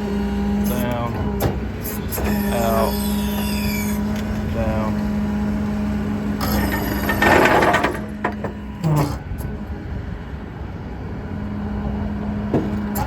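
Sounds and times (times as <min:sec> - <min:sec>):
diesel engine running: 0:00.0 - 0:13.0
hydraulic hum: 0:00.0 - 0:13.0.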